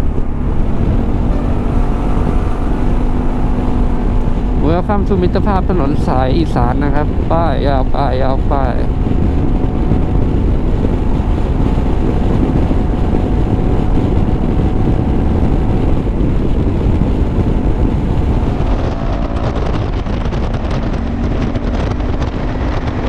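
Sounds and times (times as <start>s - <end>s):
scooter engine and road rumble: 0.0s - 23.0s
wind rushing on microphone: 0.0s - 23.0s.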